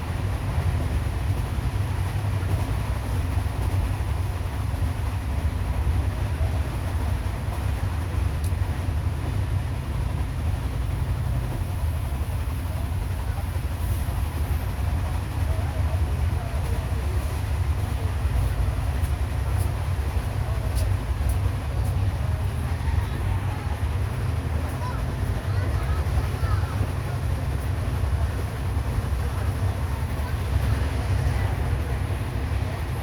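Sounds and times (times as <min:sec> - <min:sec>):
passenger train rumbling: 0:00.0 - 0:33.0.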